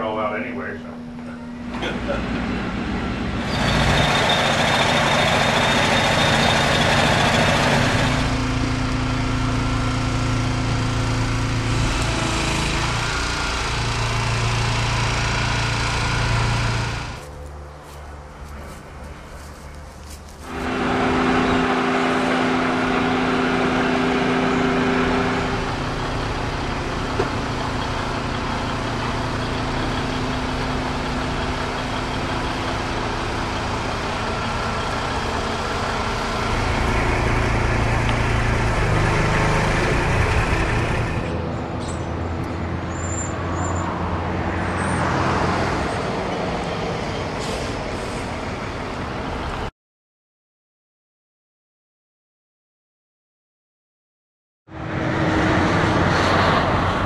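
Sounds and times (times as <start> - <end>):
road and tyre noise: 0.0 - 49.7, 54.7 - 57.0
heavy truck engine hum: 0.8 - 49.7, 54.7 - 57.0.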